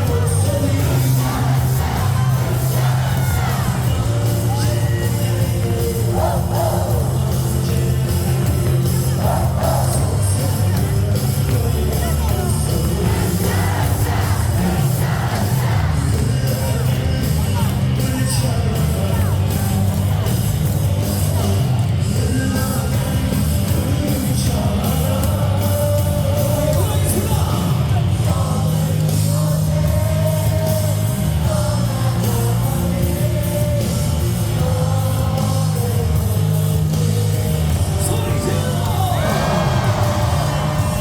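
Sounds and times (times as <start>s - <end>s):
rock song over loudspeakers: 0.0s - 41.0s.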